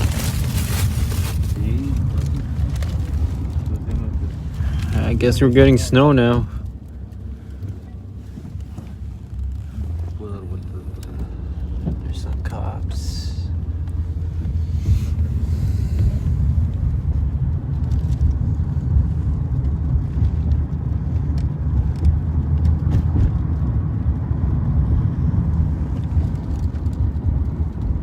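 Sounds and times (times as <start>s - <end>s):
car interior engine and road rumble: 0.0s - 28.0s.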